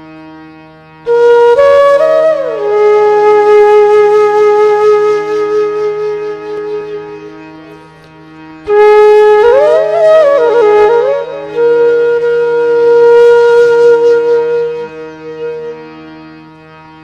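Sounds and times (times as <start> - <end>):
steady drone: 0.0 - 17.0.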